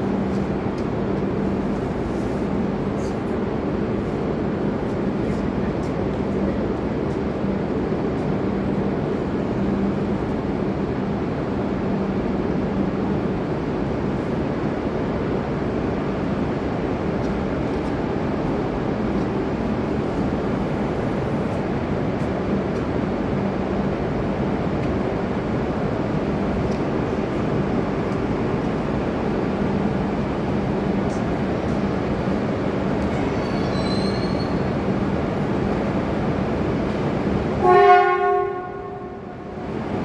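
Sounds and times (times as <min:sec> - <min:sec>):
train rumbling hum: 0:00.0 - 0:40.0.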